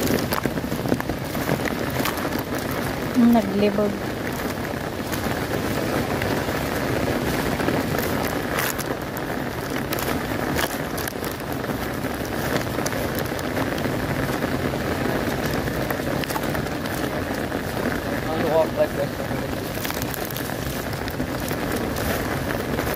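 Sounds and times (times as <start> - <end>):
heavy rain on an umbrella: 0.0 - 22.9.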